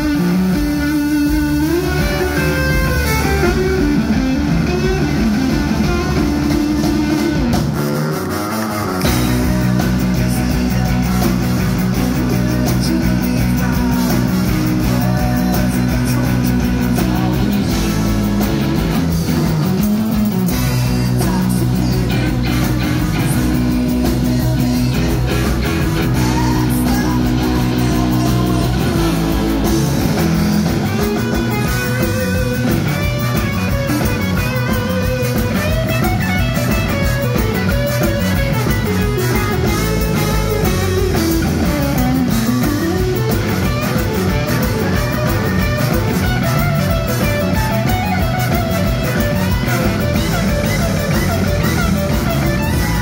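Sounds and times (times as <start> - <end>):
bass guitar: 0.0 - 53.0
drums: 0.0 - 53.0
electric guitar: 0.0 - 53.0.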